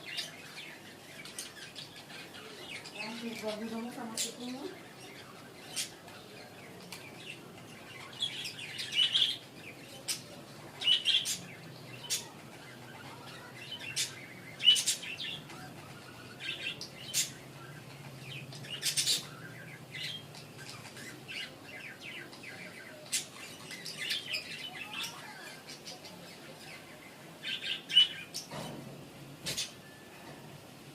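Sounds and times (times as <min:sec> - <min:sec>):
budgerigars chirping: 0:00.0 - 0:28.6.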